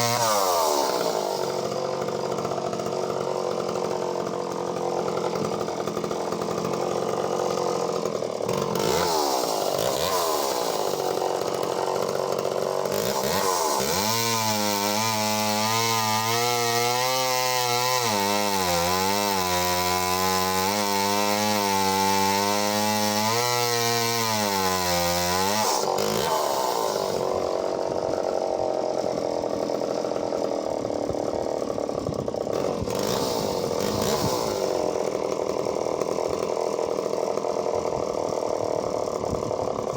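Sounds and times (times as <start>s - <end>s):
chainsaw cutting logs: 0.0s - 39.9s
chainsaw idling: 0.0s - 39.9s.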